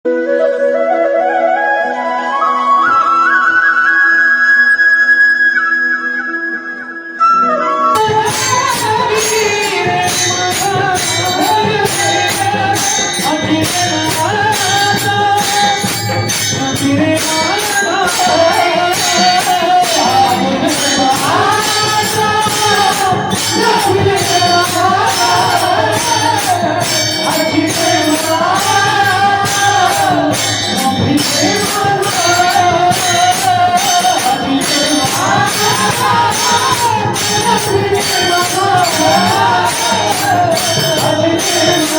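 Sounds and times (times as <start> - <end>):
gliding devotional melody: 0.1 - 41.9
jingling metal percussion: 8.0 - 41.9.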